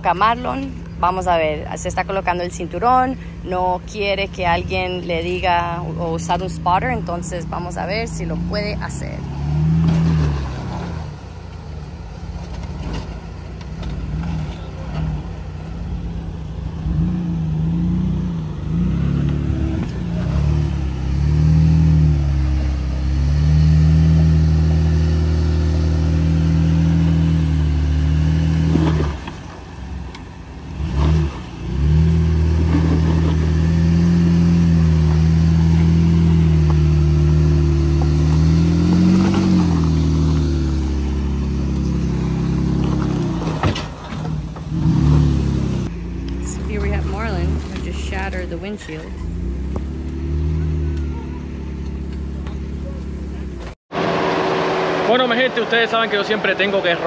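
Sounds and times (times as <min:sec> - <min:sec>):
off-road vehicle engine revving: 0:00.0 - 0:57.0.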